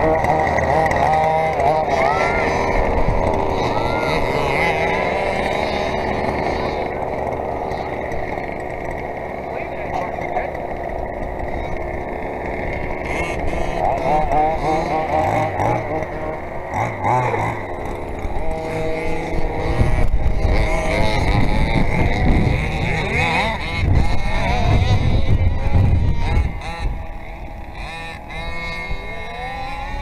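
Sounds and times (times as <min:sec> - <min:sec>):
small petrol engines revving: 0:00.0 - 0:30.0.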